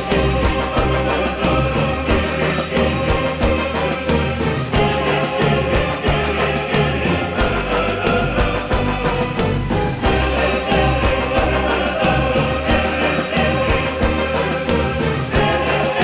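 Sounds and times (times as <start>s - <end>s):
choir-like singing: 0.0s - 16.0s
song with drums and bass: 0.0s - 16.0s.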